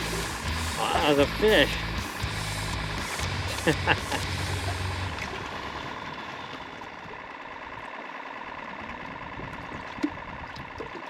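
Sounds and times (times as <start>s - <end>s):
boat motor idling: 0.0s - 11.0s.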